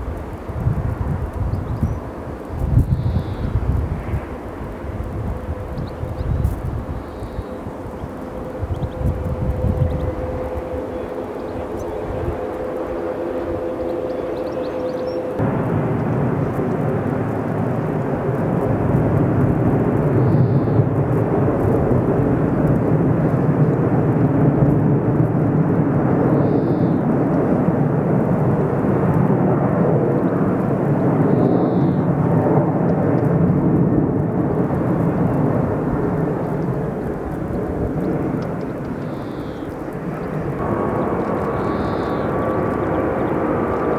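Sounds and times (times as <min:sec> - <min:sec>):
jet airliner flying overhead: 0:00.0 - 0:43.9.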